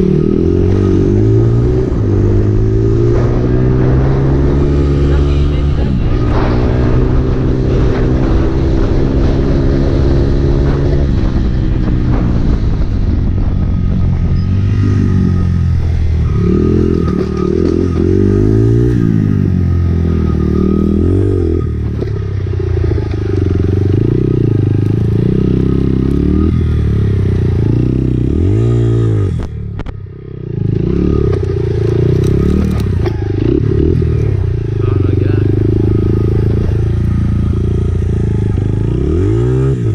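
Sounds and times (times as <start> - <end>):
dirt bike engine revving: 0.0 - 12.5, 14.1 - 29.5, 30.4 - 39.9.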